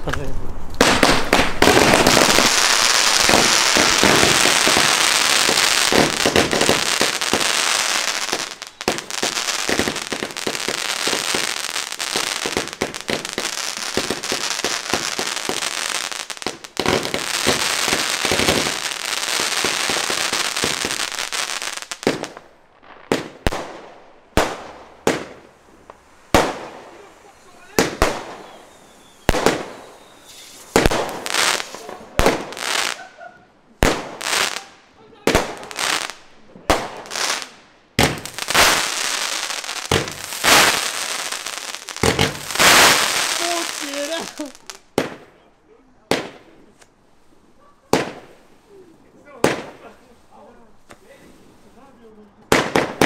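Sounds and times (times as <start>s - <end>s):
firework bangs and crackling: 0.0s - 33.1s, 33.8s - 45.4s, 46.1s - 53.0s.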